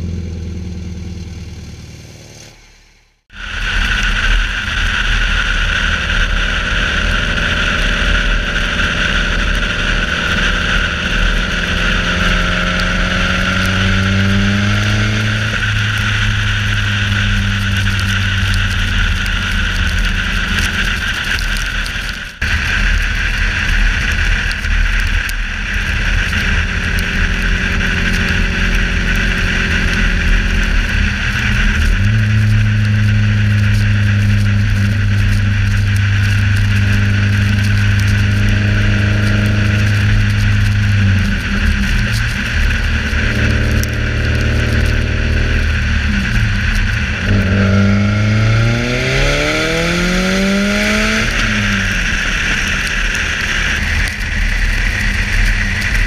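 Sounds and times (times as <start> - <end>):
car engine with loud exhaust: 0.0 - 56.0
wind noise: 3.3 - 56.0.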